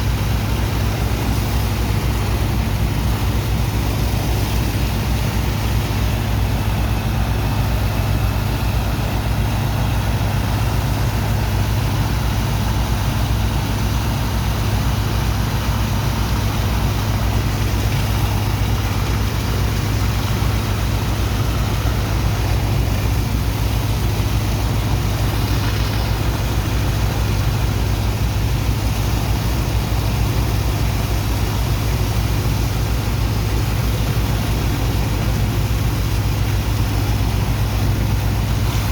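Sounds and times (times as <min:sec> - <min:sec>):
diesel pump engine droning: 0:00.0 - 0:38.9.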